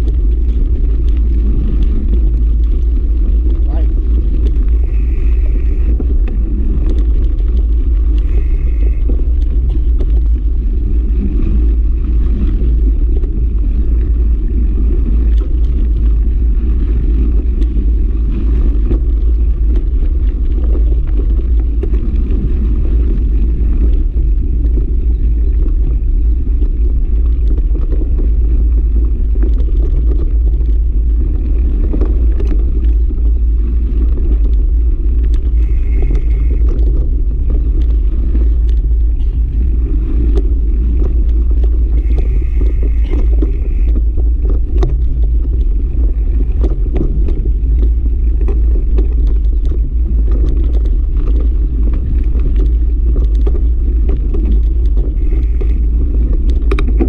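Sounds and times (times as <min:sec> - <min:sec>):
bike tyres on gravel: 0:00.0 - 0:57.0
wind buffeting microphone: 0:00.0 - 0:57.0.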